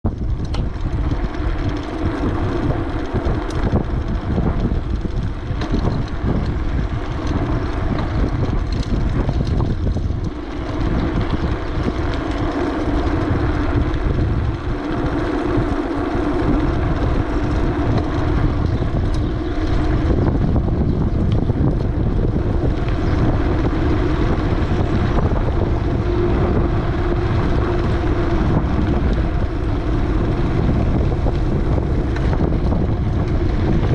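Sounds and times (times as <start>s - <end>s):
wind buffeting microphone: 0.0s - 33.9s
droning tone: 0.1s - 33.9s.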